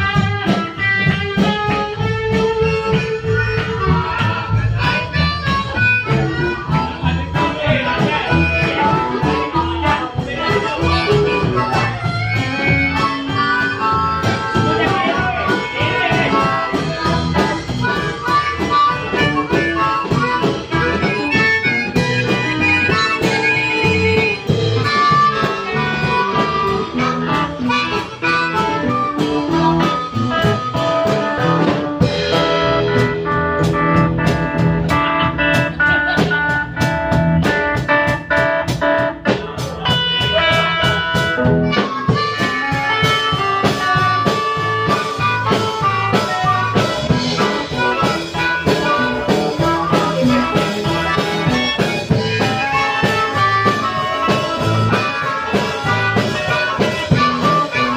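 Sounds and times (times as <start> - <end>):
blues band playing: 0.0 - 57.9
harmonica: 0.0 - 57.9.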